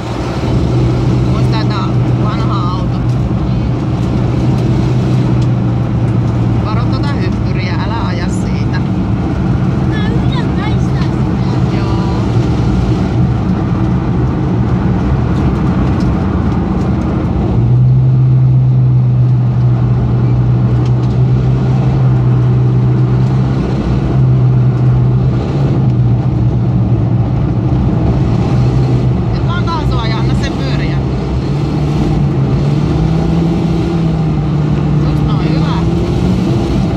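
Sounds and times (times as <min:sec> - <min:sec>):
car engine droning: 0:00.0 - 0:36.9.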